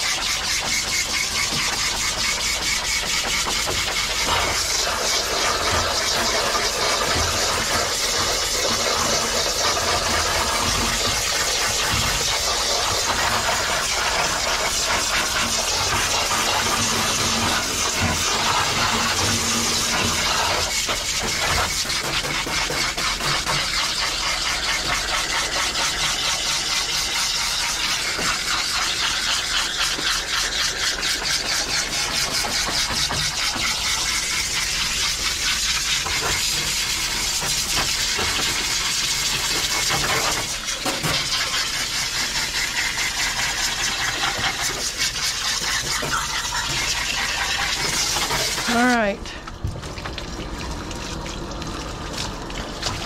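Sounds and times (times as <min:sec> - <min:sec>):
water sprayer hissing: 0:00.0 - 0:49.4.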